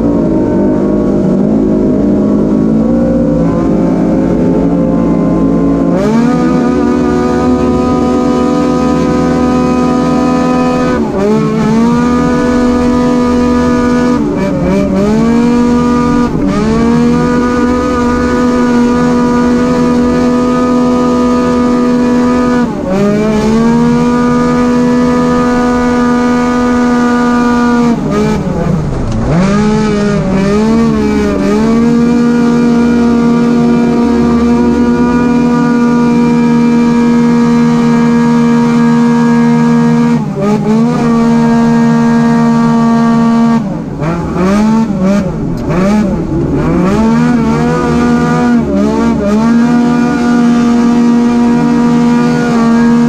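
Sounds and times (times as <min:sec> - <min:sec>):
engine revving at full throttle: 0:00.0 - 0:53.0.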